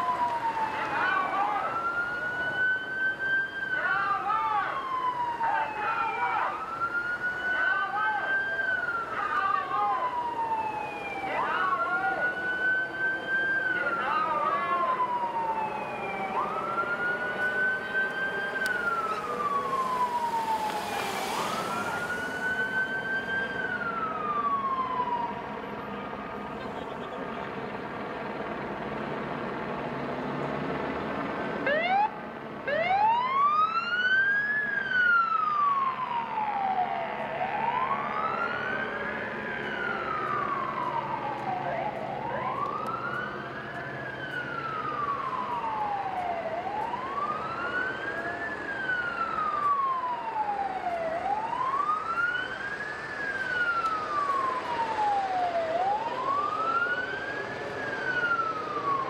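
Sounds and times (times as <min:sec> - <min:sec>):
emergency siren wailing: 0:00.0 - 0:59.0.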